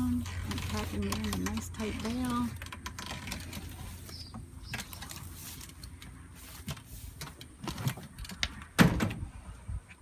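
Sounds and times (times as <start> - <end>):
dry hay rustling and crackling: 0.0 - 8.2.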